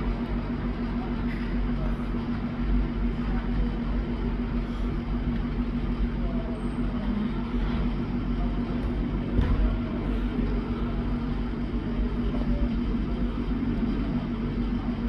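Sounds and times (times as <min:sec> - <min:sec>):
train mechanical hum: 0:00.0 - 0:15.0.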